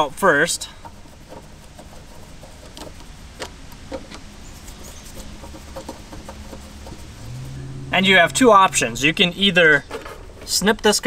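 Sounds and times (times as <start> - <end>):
low steady hum: 0.7 - 10.4.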